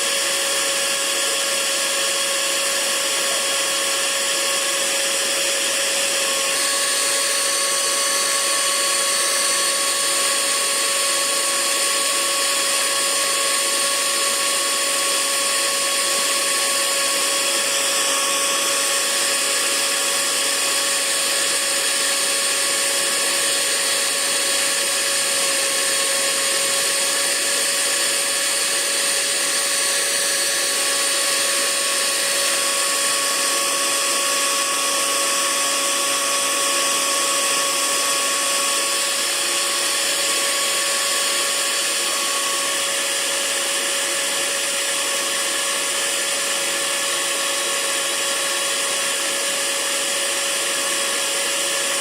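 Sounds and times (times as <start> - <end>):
hair dryer running: 0.0 - 52.0.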